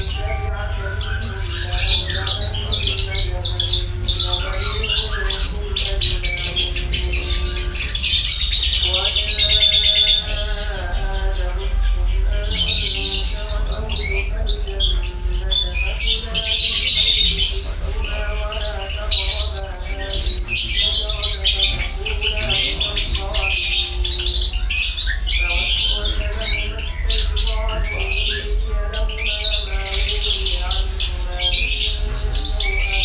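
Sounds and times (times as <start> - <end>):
bird singing rapid trills: 0.0 - 33.0.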